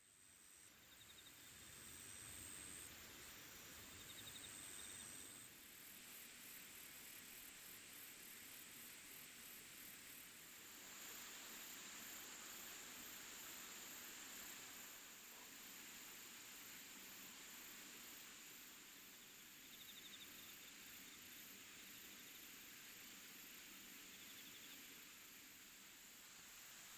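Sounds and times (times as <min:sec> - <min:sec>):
insects chirping: 0:00.0 - 0:10.2, 0:10.8 - 0:26.9
soft steady hiss: 0:00.0 - 0:26.9.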